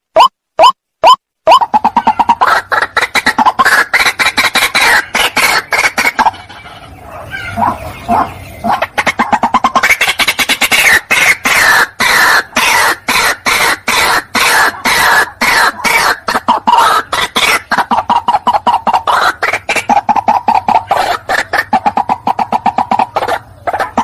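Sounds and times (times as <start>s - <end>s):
bird calling harsh repeated notes: 0.1s - 24.0s.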